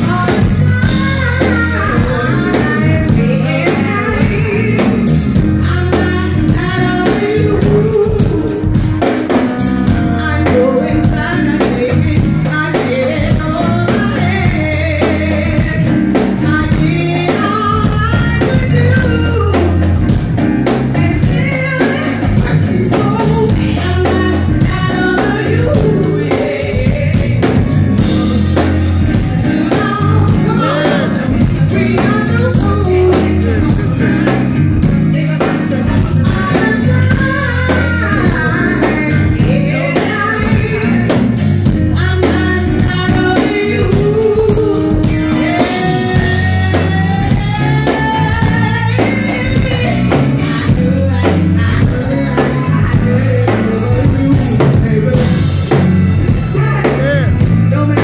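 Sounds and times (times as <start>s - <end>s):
band with drums and bass: 0.0s - 58.0s
woman singing through pa: 0.0s - 58.0s.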